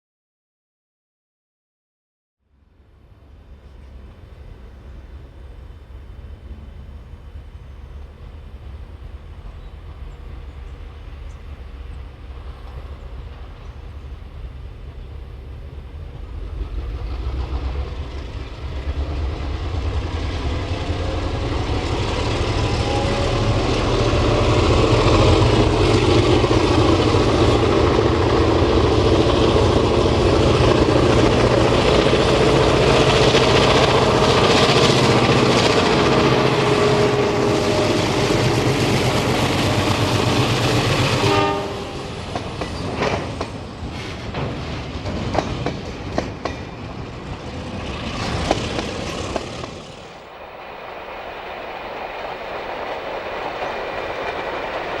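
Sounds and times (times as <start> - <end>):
diesel locomotive engine: 2.5 - 55.0.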